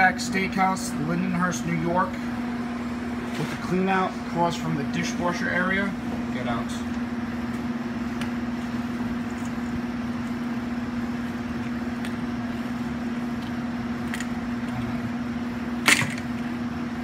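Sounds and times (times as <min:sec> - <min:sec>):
machine droning: 0:00.0 - 0:17.0.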